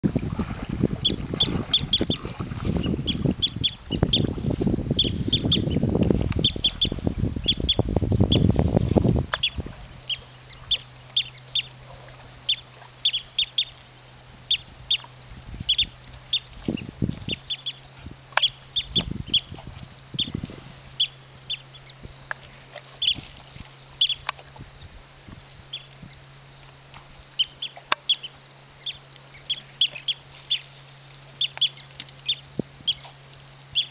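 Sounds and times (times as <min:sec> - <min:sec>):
faint steady low hum: 0:00.1 - 0:33.9
birds chirping: 0:01.0 - 0:08.6, 0:09.2 - 0:13.8, 0:14.4 - 0:23.2, 0:24.0 - 0:25.0, 0:27.3 - 0:30.7, 0:31.4 - 0:33.9.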